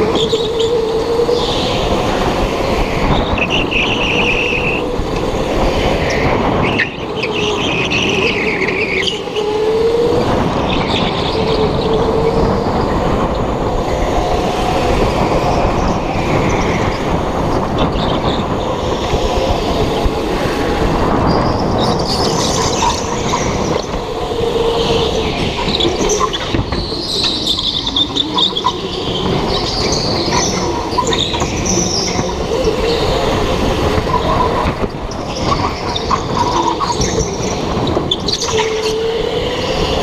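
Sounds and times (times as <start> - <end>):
go-kart motor rumbling: 0.0 - 40.0.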